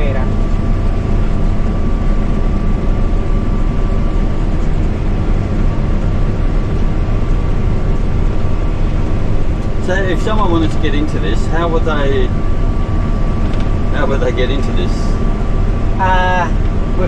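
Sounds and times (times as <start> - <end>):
combine harvester engine drone: 0.0 - 17.0
high whine: 0.0 - 17.0.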